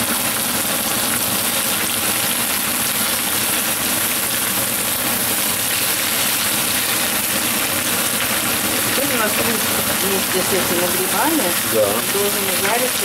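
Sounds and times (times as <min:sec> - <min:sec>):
mushrooms sizzling in a frying pan: 0:00.0 - 0:13.0.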